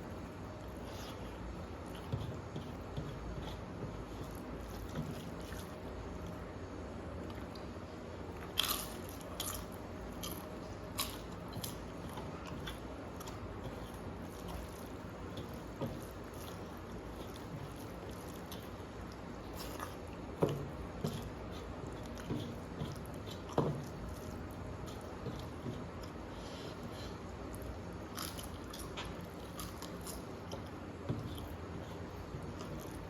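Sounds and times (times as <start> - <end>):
soft chewing with crunches: 0.0 - 33.0.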